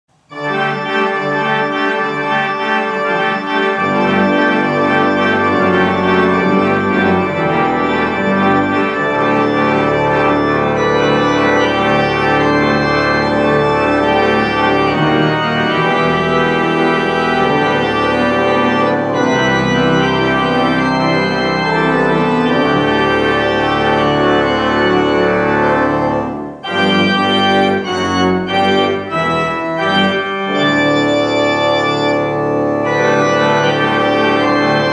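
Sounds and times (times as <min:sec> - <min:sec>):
organ chords: 0:00.2 - 0:34.9.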